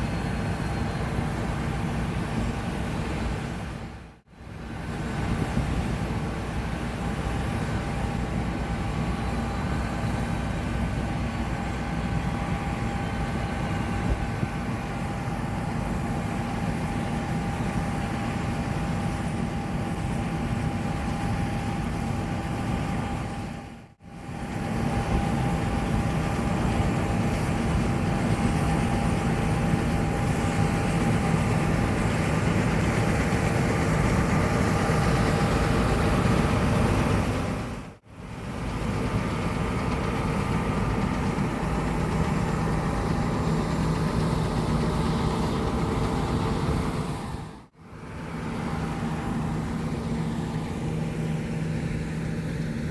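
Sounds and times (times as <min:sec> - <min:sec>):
combine engine drone: 0:00.0 - 0:52.9
mechanical whine: 0:00.0 - 0:52.9.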